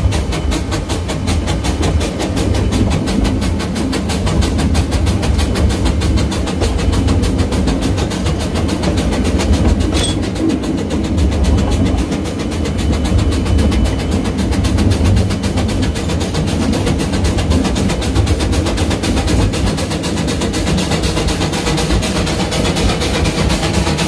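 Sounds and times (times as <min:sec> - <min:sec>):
steam locomotive exhaust beats: 0:00.0 - 0:24.0
train rumbling on rails: 0:00.0 - 0:24.0.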